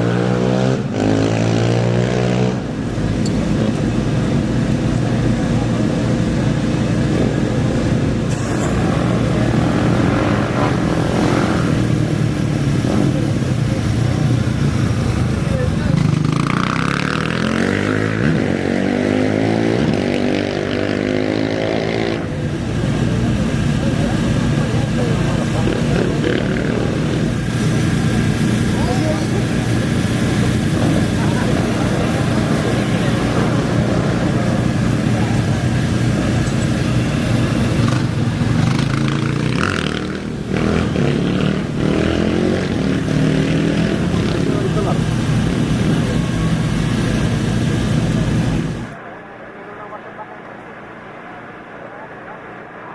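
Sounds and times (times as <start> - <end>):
engine idling and revving: 0.0 - 49.0.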